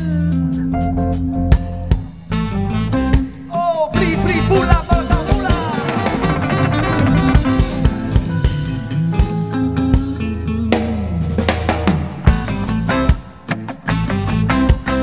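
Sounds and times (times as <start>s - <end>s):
live reggae band playing: 0.0s - 15.0s.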